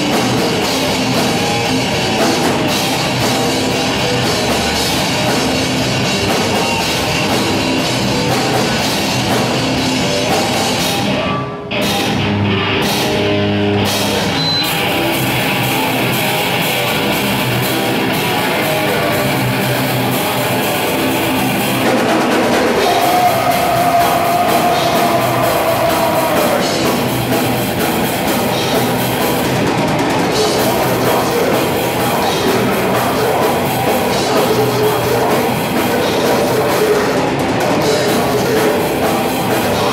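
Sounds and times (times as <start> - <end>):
drum kit pounding: 0.0 - 39.9
heavy rock band playing: 0.0 - 39.9.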